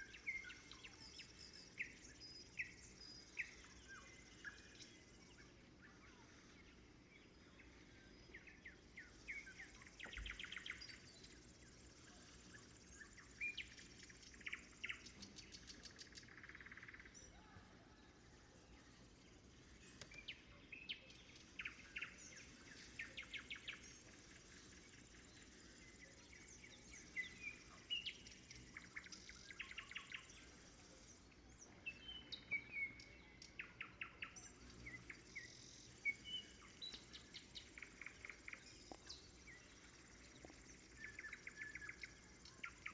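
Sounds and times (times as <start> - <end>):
nightingale singing: 0.0 - 6.1, 8.2 - 18.0, 19.8 - 42.9.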